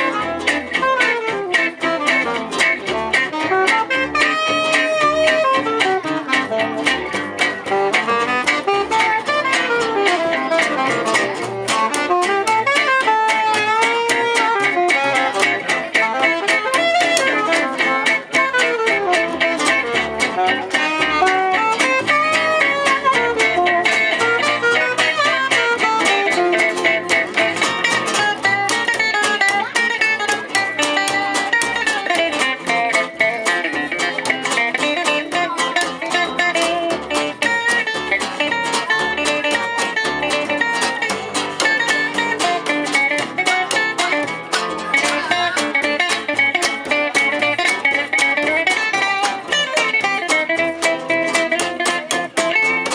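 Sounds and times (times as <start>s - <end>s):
acoustic guitar strumming: 0.0s - 52.9s
violin melody: 0.0s - 52.9s.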